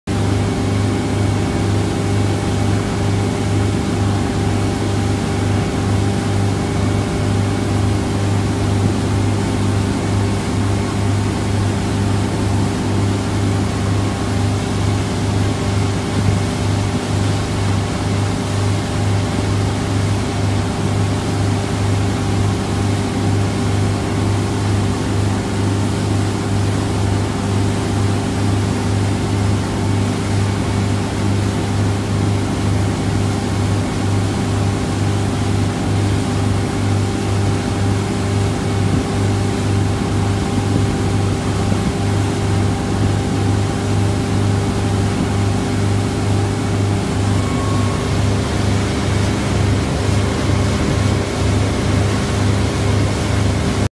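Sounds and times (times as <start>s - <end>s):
motorboat engine droning: 0.1s - 53.9s
water rushing past hull: 0.1s - 53.9s.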